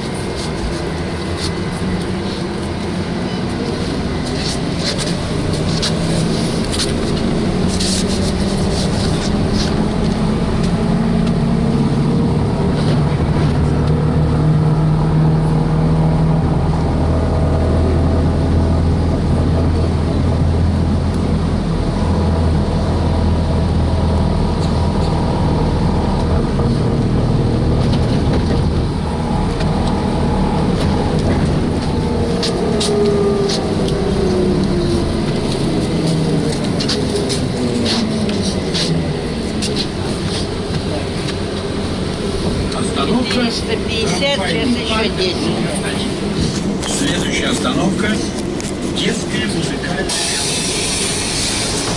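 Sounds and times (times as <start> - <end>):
road and running gear rumble: 0.0 - 51.9.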